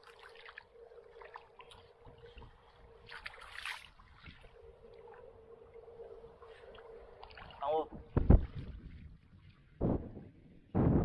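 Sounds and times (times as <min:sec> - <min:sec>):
water sloshing and splashing: 0:00.0 - 0:10.4
faint steady hum: 0:00.0 - 0:10.6.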